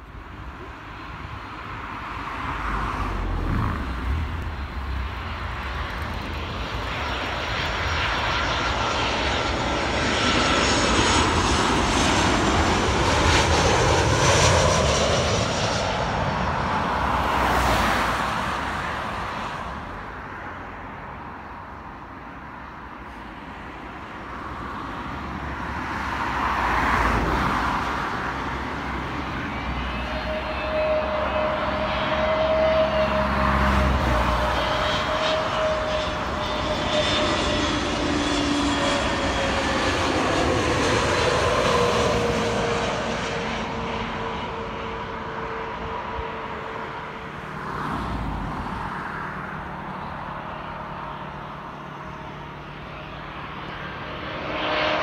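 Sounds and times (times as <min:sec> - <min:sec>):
jet airliner passing overhead: 0:00.0 - 0:55.0
second airliner approaching: 0:00.0 - 0:55.0.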